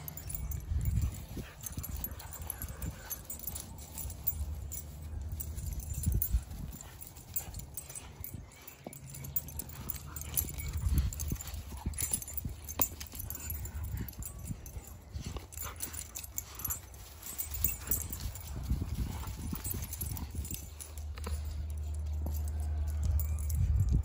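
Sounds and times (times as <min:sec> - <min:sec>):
dogs playing: 0:00.0 - 0:24.0
scuffs and knocks of paws: 0:00.0 - 0:24.0.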